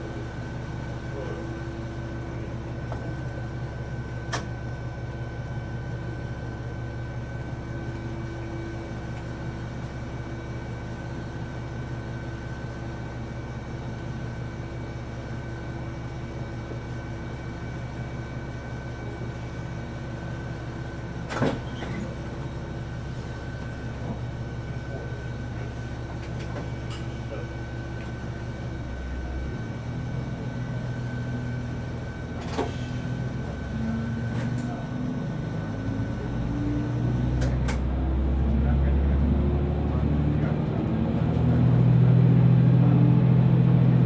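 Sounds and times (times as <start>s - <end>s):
railcar engine hum: 0.0s - 44.0s.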